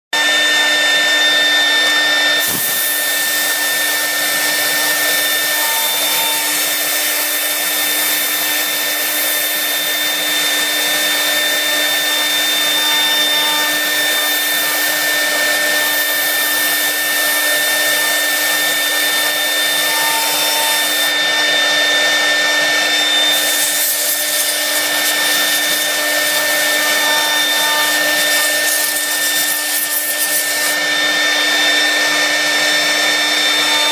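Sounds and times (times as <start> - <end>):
router spindle high whine: 0.1 - 33.9.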